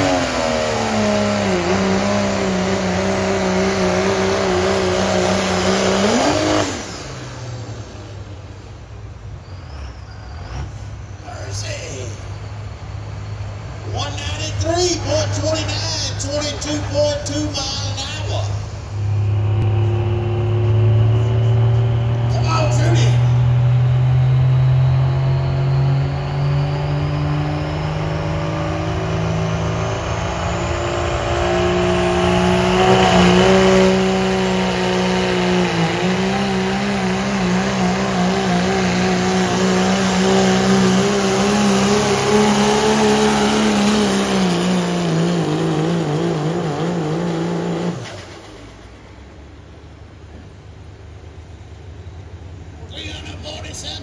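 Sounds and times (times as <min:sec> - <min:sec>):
diesel truck engine at full throttle: 0:00.0 - 0:54.0.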